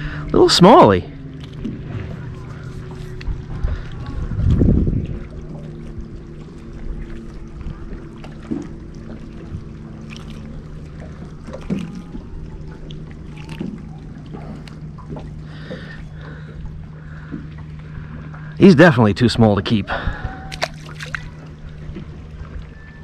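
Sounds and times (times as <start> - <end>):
steady low drone: 0.0 - 23.0.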